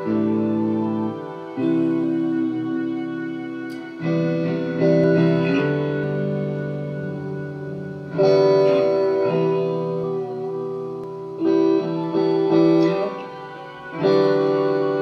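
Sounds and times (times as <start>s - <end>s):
electric guitar through amplifier: 0.0s - 15.0s.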